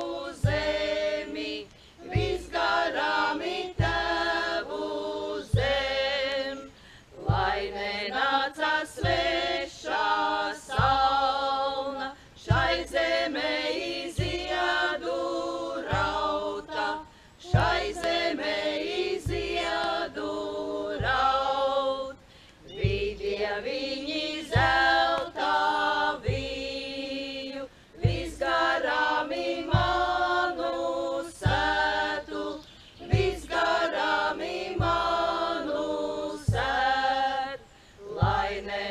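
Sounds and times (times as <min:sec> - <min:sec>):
women singing folk song together: 0:00.0 - 0:38.9.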